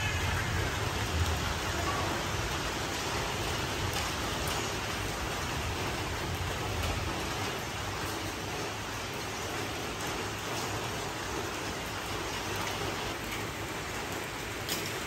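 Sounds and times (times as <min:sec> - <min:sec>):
rain on paving and foliage: 0:00.0 - 0:15.0.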